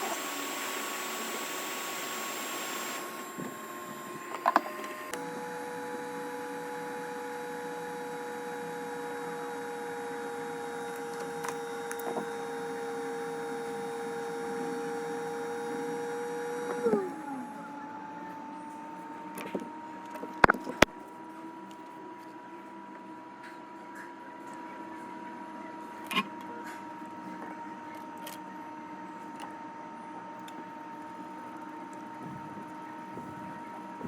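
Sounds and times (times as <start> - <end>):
blower motor whining: 0.0 - 21.8, 24.7 - 34.0.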